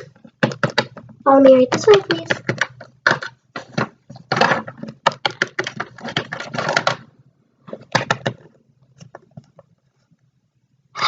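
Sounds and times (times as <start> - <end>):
plastic toys clattering on hard surface: 0.0 - 7.1, 7.7 - 9.7.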